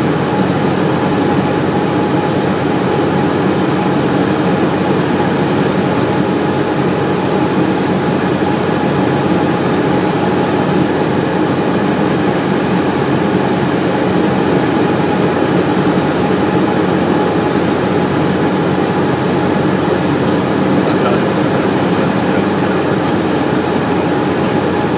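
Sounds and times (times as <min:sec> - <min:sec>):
propeller plane engine drone: 0:00.0 - 0:24.9.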